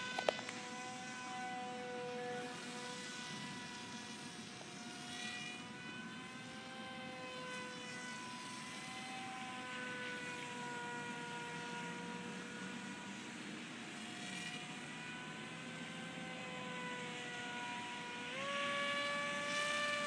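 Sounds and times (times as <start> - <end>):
model plane motor whine: 0.0 - 20.0.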